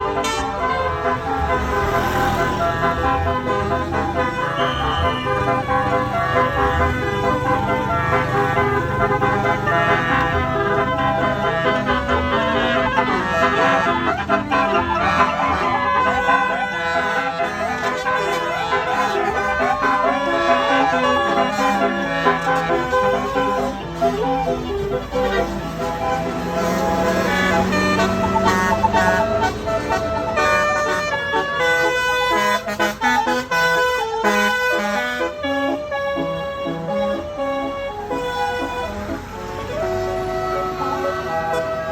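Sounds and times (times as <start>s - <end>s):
musical vehicle horns: 0.0s - 41.9s.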